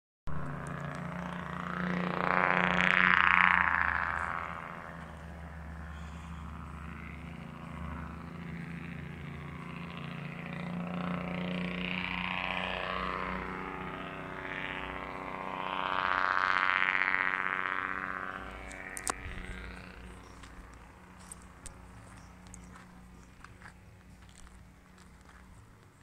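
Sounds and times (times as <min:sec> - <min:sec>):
highway traffic engines humming: 0:00.3 - 0:26.0.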